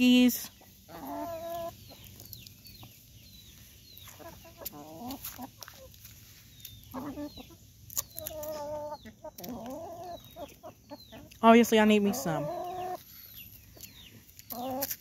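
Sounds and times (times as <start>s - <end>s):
hens clucking: 0.3s - 15.0s.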